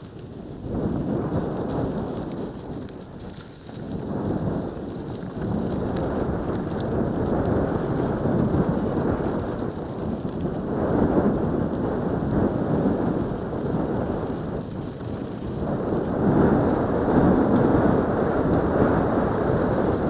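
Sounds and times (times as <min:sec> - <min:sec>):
bike tyres on gravel: 0:00.0 - 0:20.0
wind buffeting microphone: 0:00.0 - 0:20.0.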